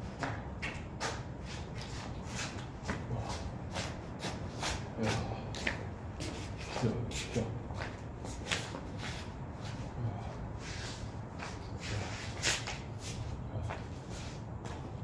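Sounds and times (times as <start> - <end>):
scuffing and rustling: 0.1 - 15.0.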